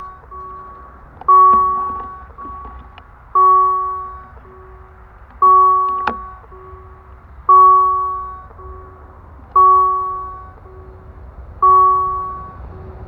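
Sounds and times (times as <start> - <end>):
level crossing bell dinging: 0.0 - 13.0.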